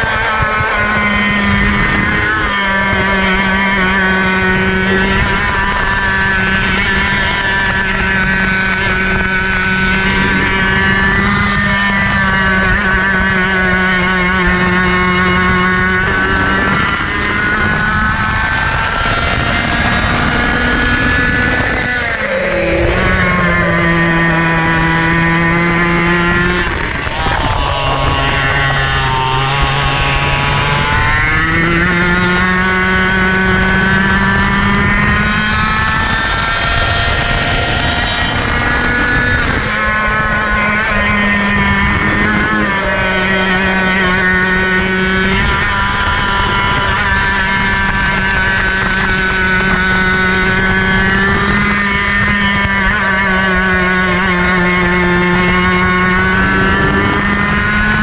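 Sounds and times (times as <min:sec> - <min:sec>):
kart two-stroke engine revving: 0:00.0 - 0:58.0.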